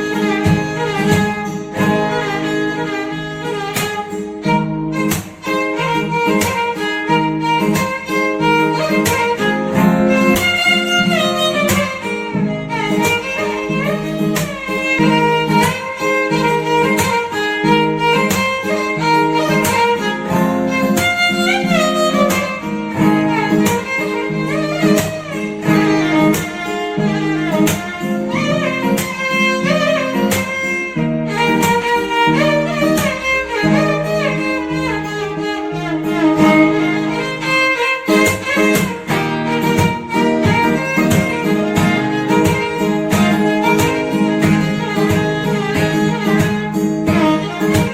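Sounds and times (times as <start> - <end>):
bowed string melody: 0.0 - 47.9
plucked guitar accompaniment: 0.0 - 47.9
steady beat: 0.0 - 47.9.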